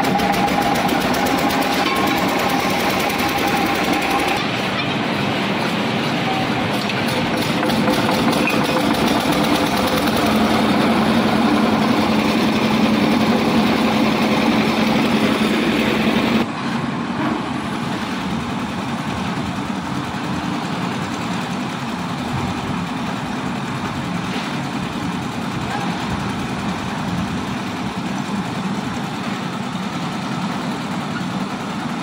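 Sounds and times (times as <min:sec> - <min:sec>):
diesel engine running: 0:00.0 - 0:32.0
distant machinery noise: 0:00.0 - 0:32.0.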